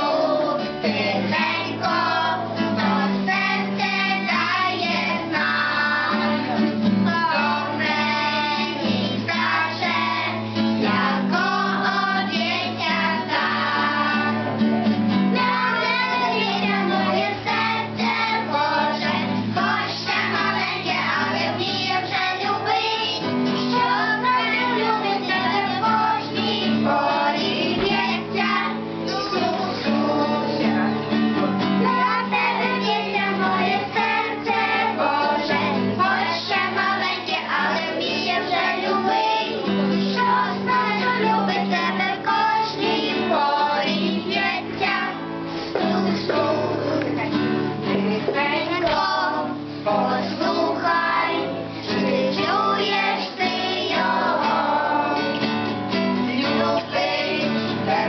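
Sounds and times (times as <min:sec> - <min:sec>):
person singing: 0:00.0 - 0:14.6, 0:15.4 - 0:45.1, 0:45.7 - 0:55.5, 0:56.1 - 0:58.0
backing music with guitar: 0:00.0 - 0:58.0.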